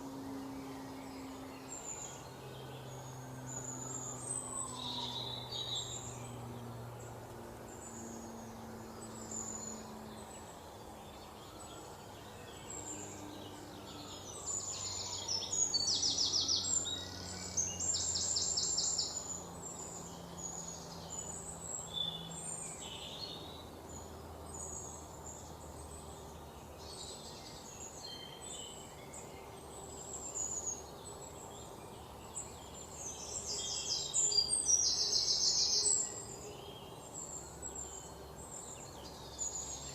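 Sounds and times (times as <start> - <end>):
birds chirping and trilling: 0.0 - 39.9
faint low hum: 0.0 - 39.9.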